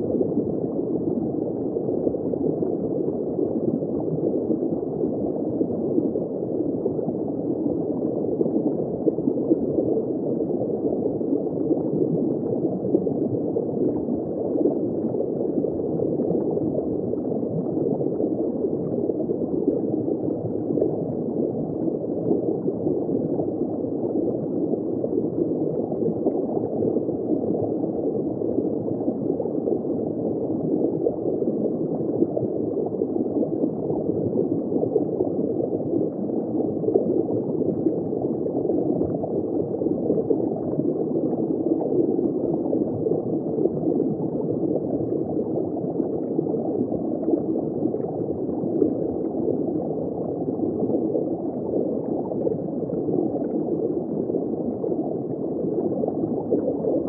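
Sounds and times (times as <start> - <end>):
underwater gurgling water: 0.0 - 57.0.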